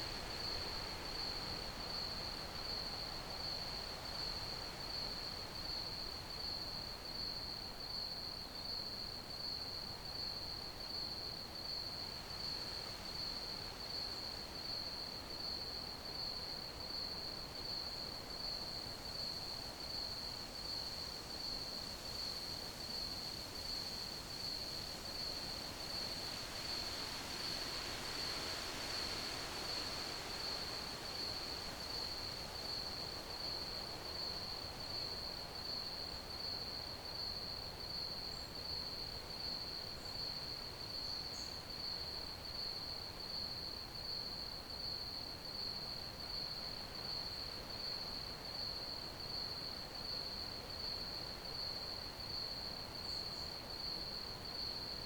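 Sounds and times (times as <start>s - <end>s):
crickets chirping: 7.3s - 55.0s.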